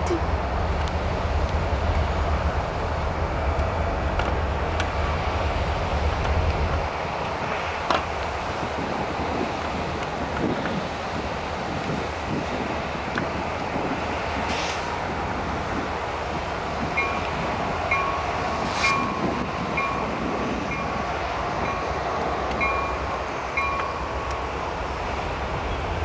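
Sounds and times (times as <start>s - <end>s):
wind noise: 0.0s - 26.0s.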